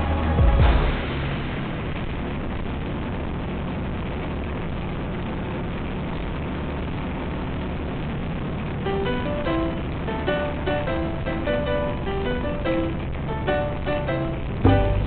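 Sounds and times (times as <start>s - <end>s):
wind rushing: 0.0s - 15.0s.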